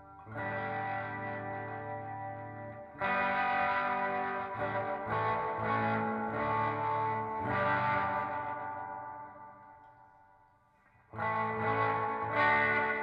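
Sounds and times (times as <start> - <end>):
electric guitar chords with reverb: 0.0 - 13.0.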